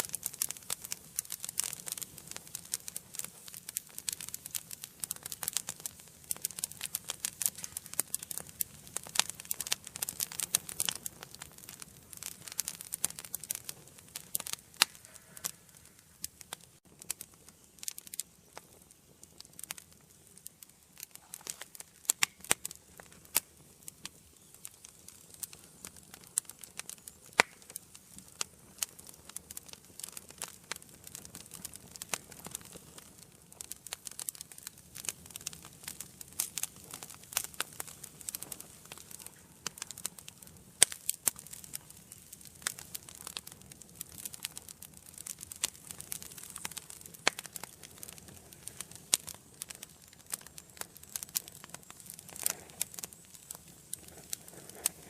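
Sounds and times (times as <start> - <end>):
soft steady hiss: 0.0 - 55.0
wood fire crackling and popping: 0.0 - 55.0.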